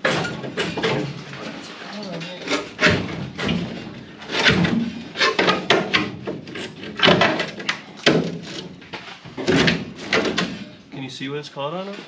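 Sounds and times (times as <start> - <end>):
sheet steel knocking and clunking: 0.0 - 1.6, 2.2 - 10.8.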